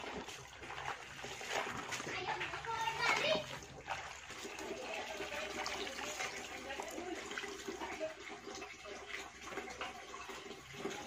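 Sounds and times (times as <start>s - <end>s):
water splashing in a basin: 0.0s - 11.0s.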